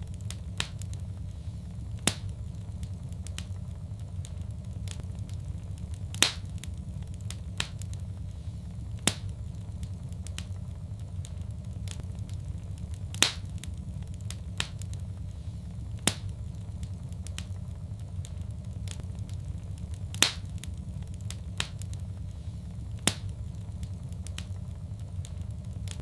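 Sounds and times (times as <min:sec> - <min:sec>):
low rumble: 0:00.0 - 0:26.0
wood fire crackling: 0:00.0 - 0:26.0.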